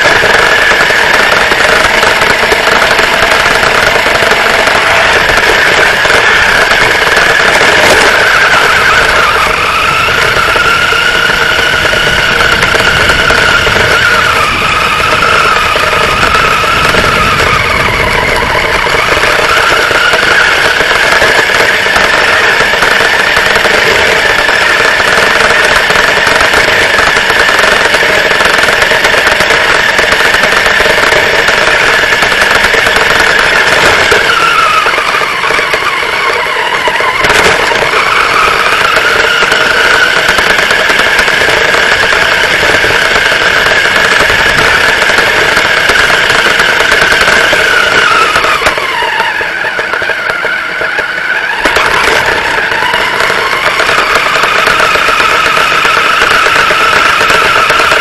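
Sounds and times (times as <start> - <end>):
toy truck motor drone: 0.0 - 58.0.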